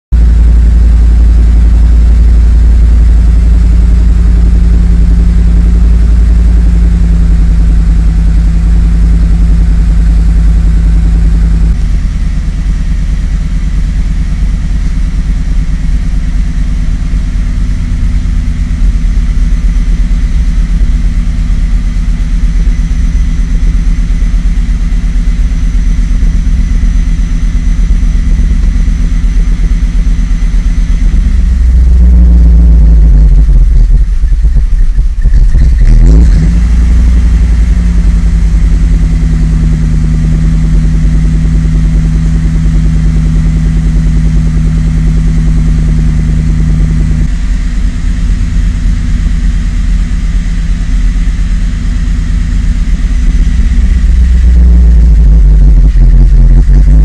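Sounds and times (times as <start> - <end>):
car engine idling roughly: 0.1 - 57.0.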